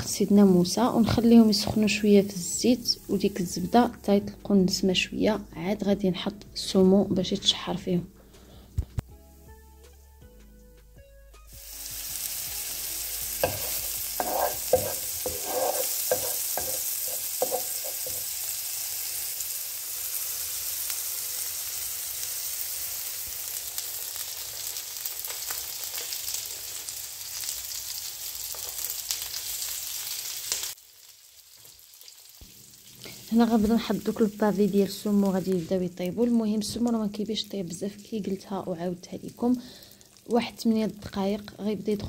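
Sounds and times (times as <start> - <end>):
garlic sizzling in a frying pan: 0.0 - 7.5, 11.4 - 42.0.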